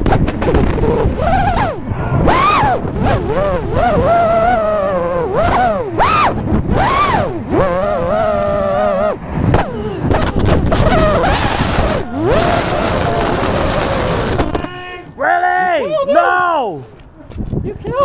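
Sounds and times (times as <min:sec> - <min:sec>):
drone motors whining: 0:00.0 - 0:14.8.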